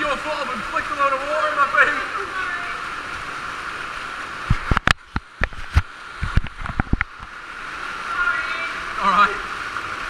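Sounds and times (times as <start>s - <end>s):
cave stream rushing: 0.0s - 10.0s.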